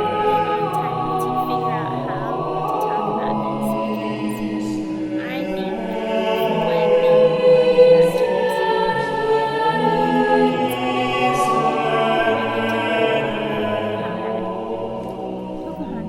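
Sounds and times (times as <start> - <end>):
choir singing long chords: 0.0 - 16.0.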